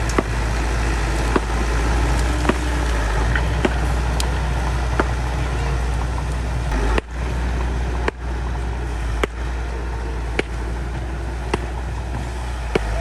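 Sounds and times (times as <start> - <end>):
bulldozer diesel engine droning: 0.0 - 13.0.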